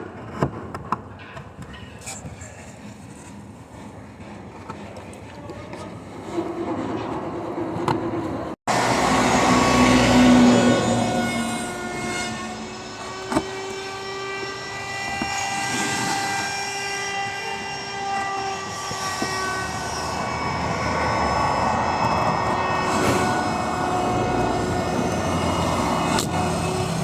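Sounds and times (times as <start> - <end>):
machine whining hum: 3.2 - 27.0.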